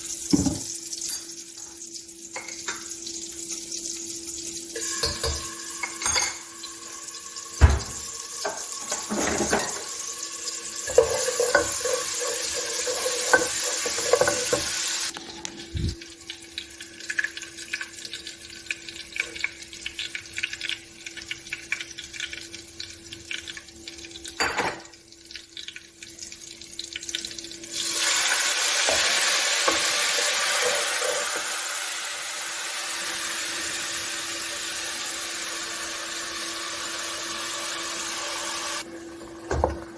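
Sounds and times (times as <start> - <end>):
meat sizzling in oil: 0.0 - 38.9.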